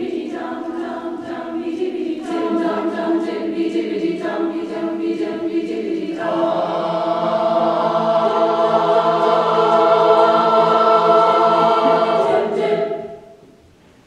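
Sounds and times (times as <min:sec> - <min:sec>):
choir singing sustained chord: 0:00.0 - 0:13.5.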